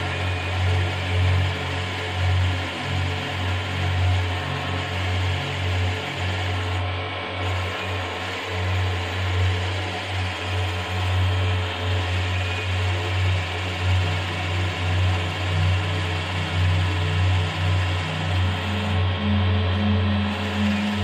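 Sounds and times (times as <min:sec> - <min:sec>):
milling machine humming: 0:00.0 - 0:21.0.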